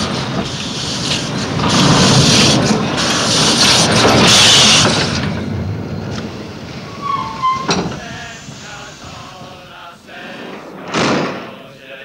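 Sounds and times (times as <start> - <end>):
steam train hiss: 0.0 - 12.0
steam train rumble: 0.0 - 12.0.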